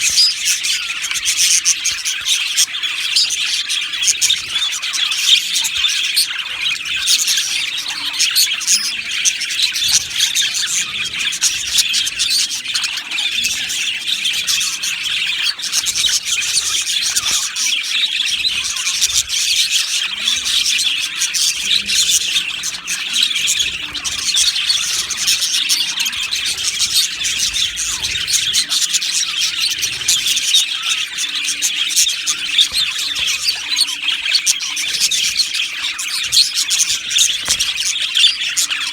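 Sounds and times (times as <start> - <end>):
bird squawks: 0.0 - 38.9
budgerigars chirping and warbling: 0.0 - 38.9.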